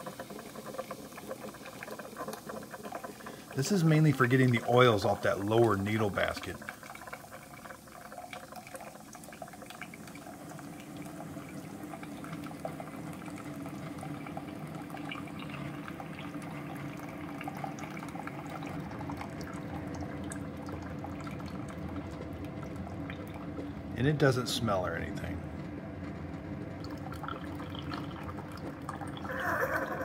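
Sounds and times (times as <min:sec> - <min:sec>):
coffee maker hum: 0:00.0 - 0:30.0.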